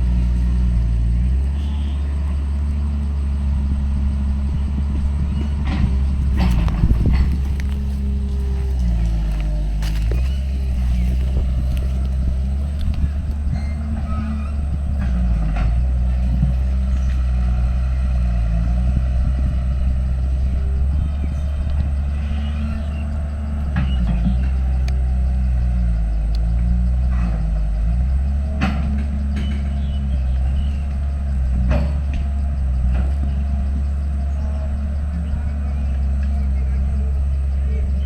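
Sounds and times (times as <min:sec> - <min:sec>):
diesel engine under varying load: 0:00.0 - 0:38.0.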